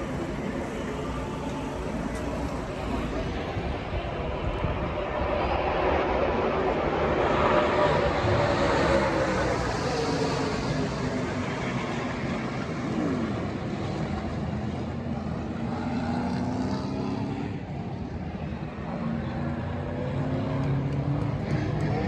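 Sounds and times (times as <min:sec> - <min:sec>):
engine noise wash: 0:00.0 - 0:16.6, 0:17.4 - 0:22.0
race truck engines passing: 0:00.0 - 0:22.0.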